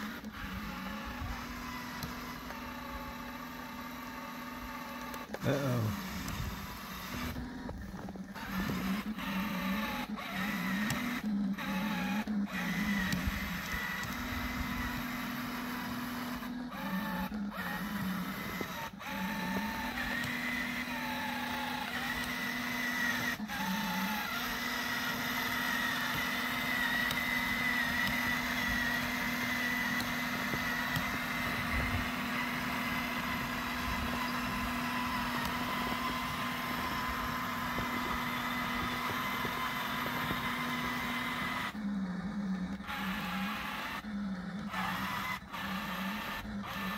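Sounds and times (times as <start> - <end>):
electric motor whine: 0.0 - 46.9.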